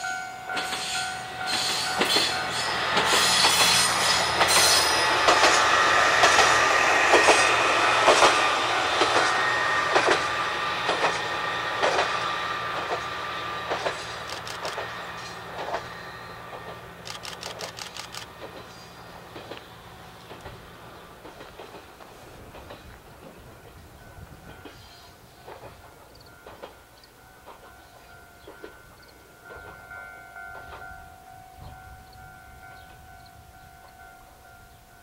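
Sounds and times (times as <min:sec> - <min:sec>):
railcar wheels clicking over joints: 0:00.0 - 0:31.1.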